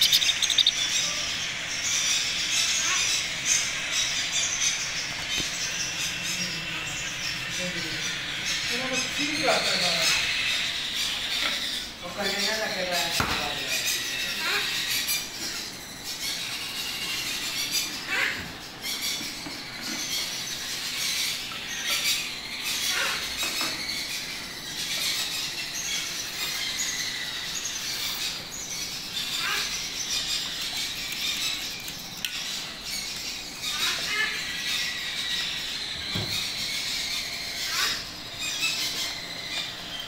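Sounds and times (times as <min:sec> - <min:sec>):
macaw chicks squealing: 0:00.0 - 0:40.0.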